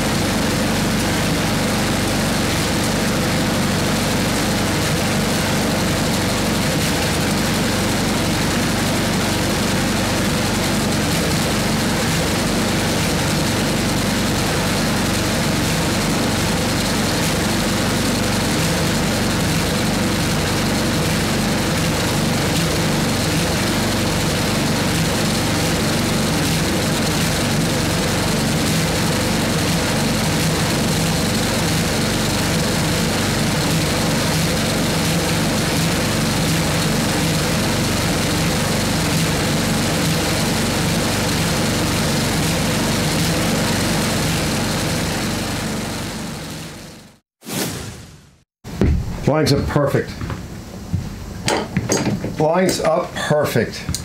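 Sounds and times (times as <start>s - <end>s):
snowblower engine running: 0.0s - 47.2s.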